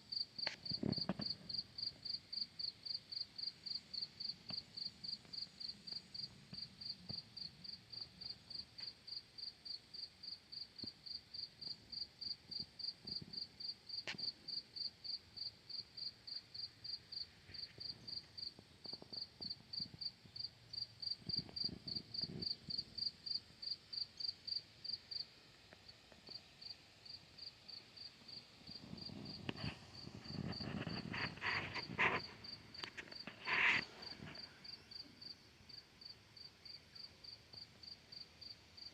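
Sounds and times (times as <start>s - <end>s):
cricket chirping: 0.1s - 25.3s, 26.0s - 38.9s.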